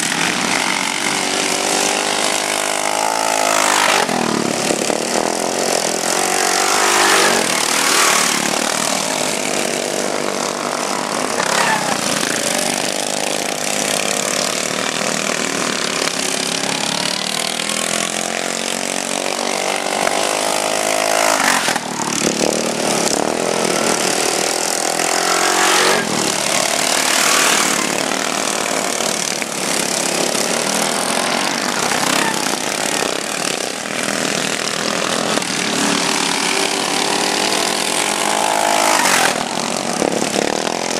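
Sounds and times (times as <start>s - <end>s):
lawn mower engines revving: 0.0s - 40.9s.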